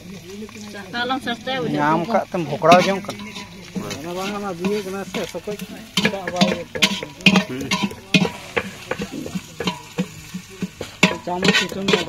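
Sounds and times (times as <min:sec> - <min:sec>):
food sizzling: 0:00.0 - 0:12.0
metal ladle scraping a pot: 0:01.8 - 0:12.0.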